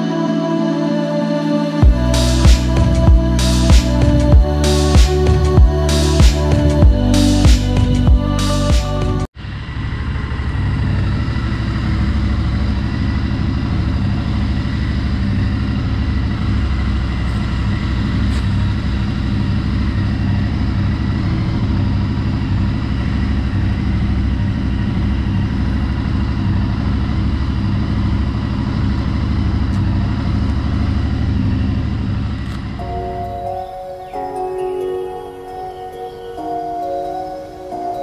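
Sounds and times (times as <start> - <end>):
motorcycle engine idling: 1.8 - 33.8.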